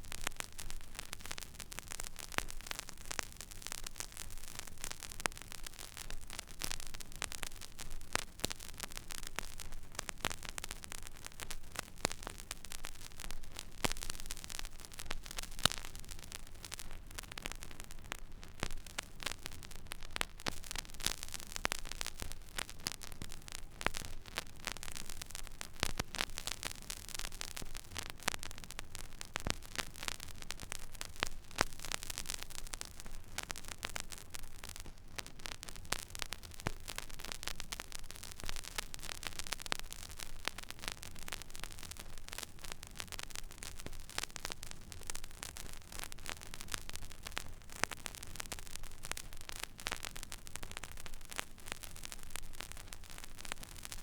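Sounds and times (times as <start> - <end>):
vinyl crackles and pops: 0.0 - 54.0.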